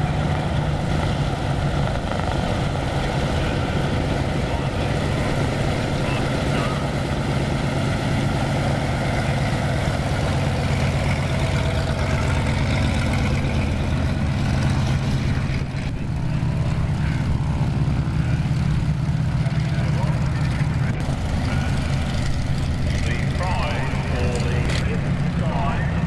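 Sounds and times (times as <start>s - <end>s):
propeller aircraft engines droning: 0.0s - 26.0s.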